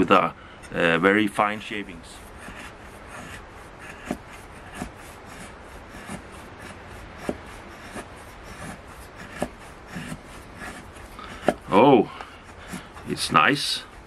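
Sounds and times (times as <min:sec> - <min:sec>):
knife scraping wooden stick: 0:00.0 - 0:14.0.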